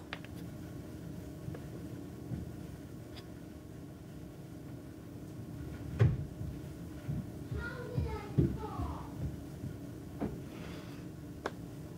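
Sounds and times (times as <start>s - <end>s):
low room hum: 0.0s - 11.9s.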